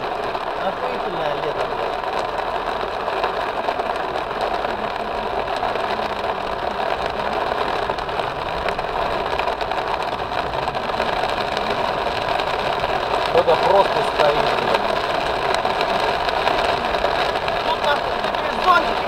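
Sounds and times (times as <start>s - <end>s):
heavy rain on car roof: 0.0s - 19.0s.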